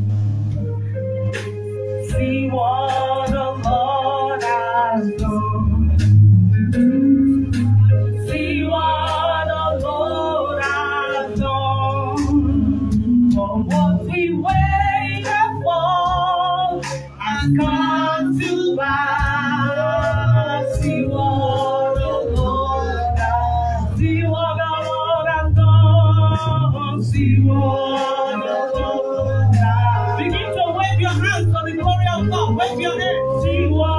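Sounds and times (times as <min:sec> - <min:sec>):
held bass notes: 0:00.0 - 0:33.9
person singing with vibrato: 0:02.1 - 0:33.9.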